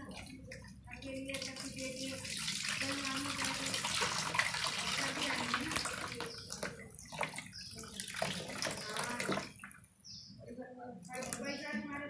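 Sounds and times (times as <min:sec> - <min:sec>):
water splashing on bottle and plate: 0:00.0 - 0:10.0, 0:11.0 - 0:11.9.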